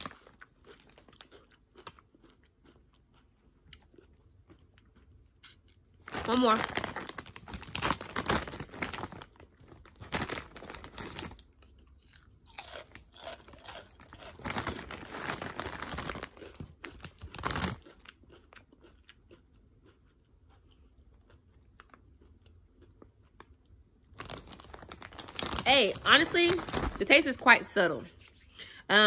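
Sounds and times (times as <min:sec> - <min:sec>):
potato chip crunching: 0:00.0 - 0:27.4.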